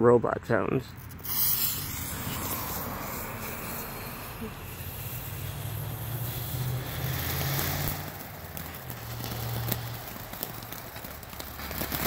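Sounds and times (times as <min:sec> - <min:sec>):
firework fountain hissing: 0:01.0 - 0:12.0.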